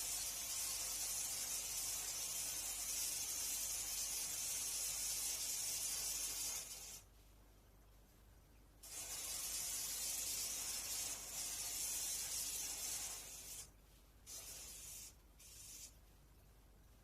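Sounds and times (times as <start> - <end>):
aerosol spray hissing: 0.0 - 7.1, 8.8 - 16.0.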